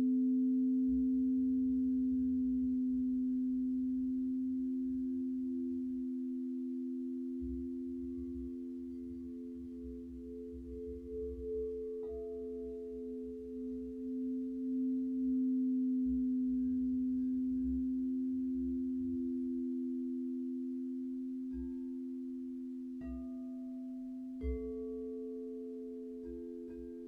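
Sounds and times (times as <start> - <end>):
singing bowls ringing: 0.0 - 27.0
soft singing bowl strikes: 0.0 - 27.0.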